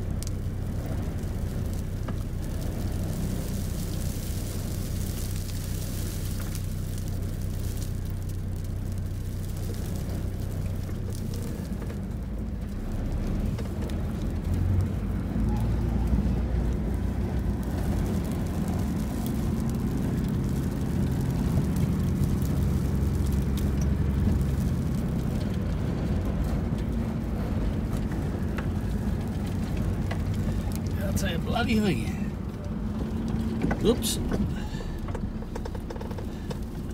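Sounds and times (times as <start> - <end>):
wind buffeting a car: 0.0 - 36.9.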